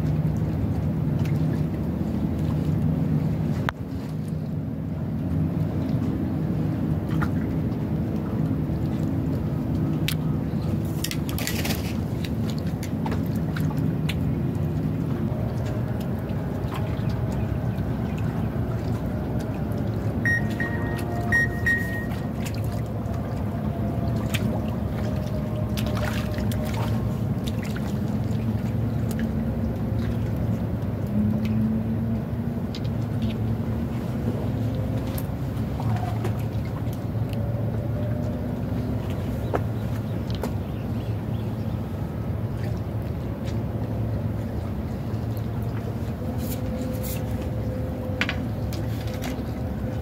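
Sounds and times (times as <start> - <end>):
low engine hum: 0.0 - 50.0
water sloshing among concrete blocks: 0.0 - 50.0.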